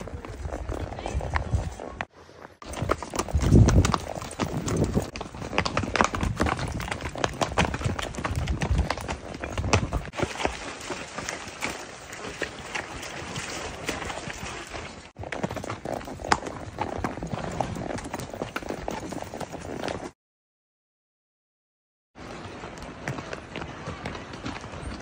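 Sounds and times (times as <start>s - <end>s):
hooves clip-clopping on gravel: 0.0s - 20.1s, 22.2s - 25.0s.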